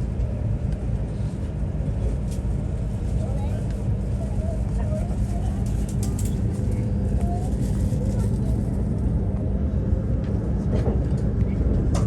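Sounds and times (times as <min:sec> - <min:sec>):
train cabin rumble and hum: 0:00.0 - 0:12.0.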